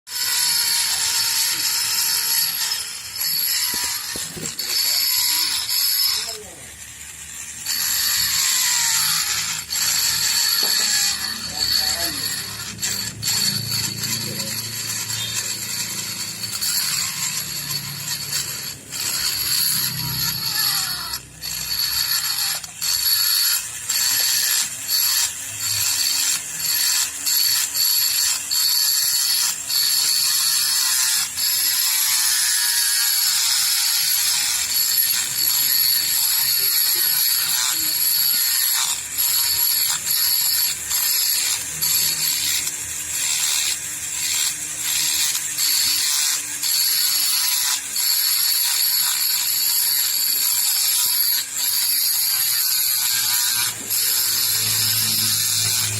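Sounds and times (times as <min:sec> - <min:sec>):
small tool whining and rattling: 0:00.1 - 0:55.9.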